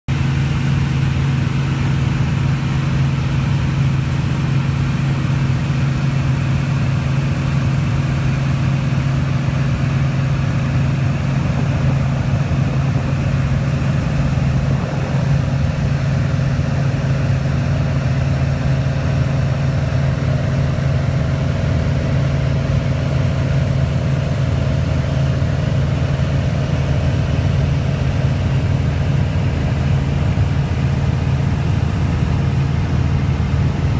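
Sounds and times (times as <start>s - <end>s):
airplane engine and propeller hum: 0.1s - 33.9s.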